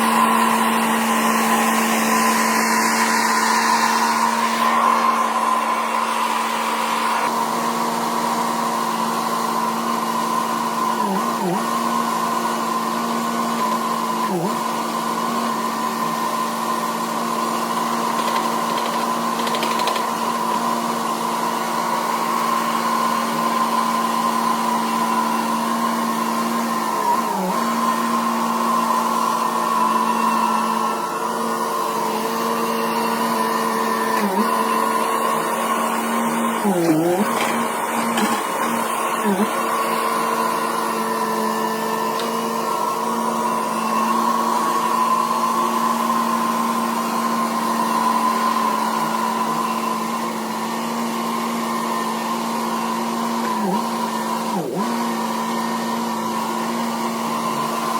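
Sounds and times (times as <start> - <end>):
motor running with whining hum: 0.0 - 57.9.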